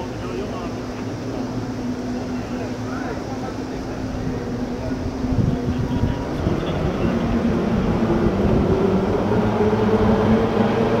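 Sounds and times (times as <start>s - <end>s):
outboard motor running: 0.0s - 9.4s.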